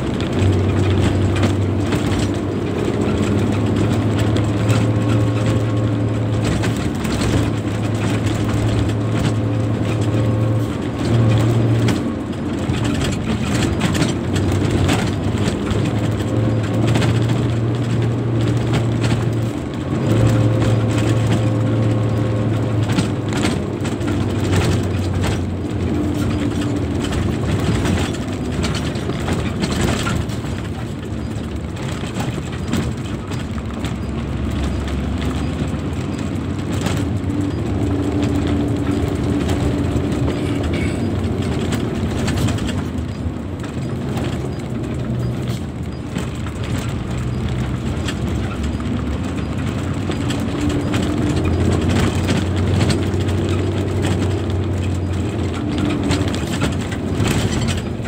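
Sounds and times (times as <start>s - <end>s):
truck cab rattling and knocking: 0.0s - 58.0s
truck diesel engine drone: 0.0s - 58.0s.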